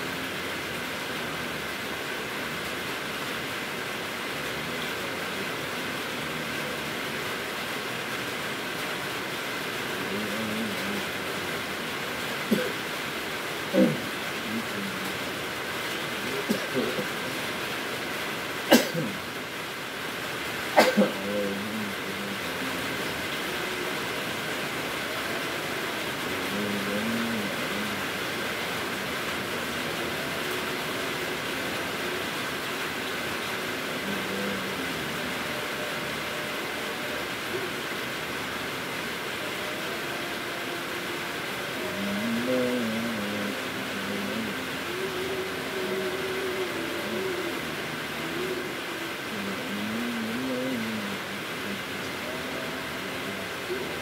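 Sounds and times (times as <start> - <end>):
low murmur: 0.0 - 54.0
rain falling: 0.0 - 54.0.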